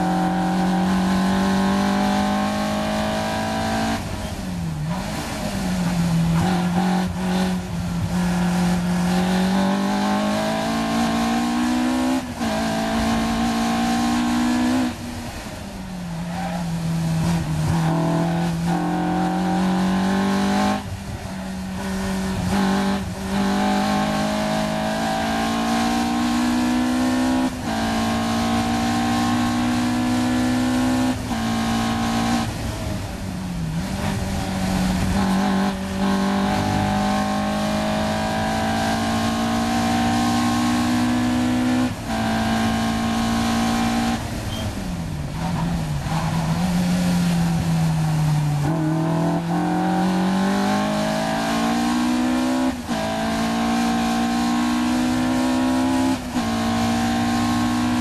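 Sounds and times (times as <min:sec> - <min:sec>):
car engine at high revs: 0:00.0 - 0:58.0.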